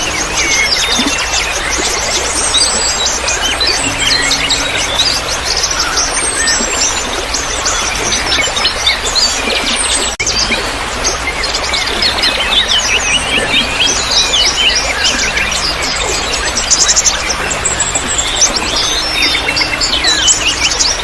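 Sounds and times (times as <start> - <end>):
small birds chirping and trilling: 0.0 - 21.0
trickling water: 0.0 - 21.0.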